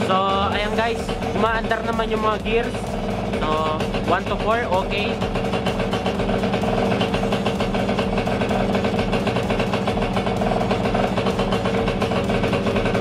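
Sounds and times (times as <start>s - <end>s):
two-stroke engine idling: 0.0s - 13.0s.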